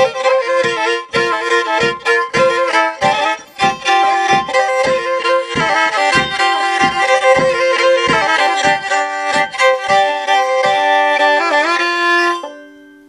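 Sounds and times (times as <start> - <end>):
low beat thumps: 0.0 - 11.9
solo violin folk dance tune: 0.0 - 13.0.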